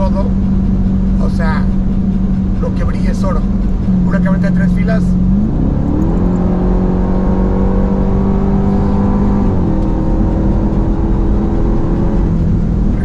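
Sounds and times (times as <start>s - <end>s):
car engine pulling at part throttle: 0.0s - 13.0s.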